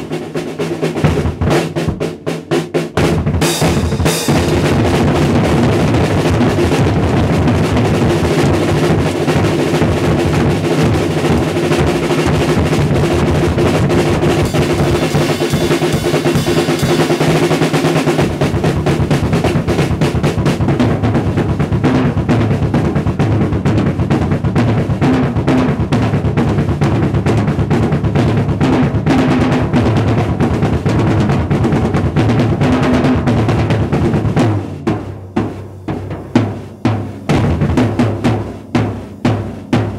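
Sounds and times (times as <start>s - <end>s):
drum kit solo: 0.0s - 39.9s.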